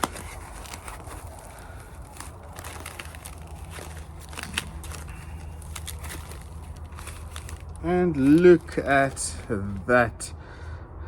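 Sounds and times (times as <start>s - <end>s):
packaging crinkling: 0.0s - 10.1s
distant traffic rumble: 0.0s - 11.0s.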